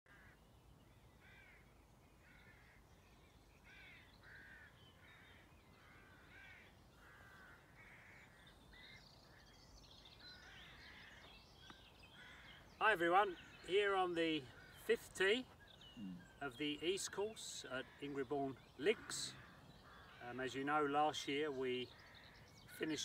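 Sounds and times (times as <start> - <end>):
bird calls: 0.1 - 23.0.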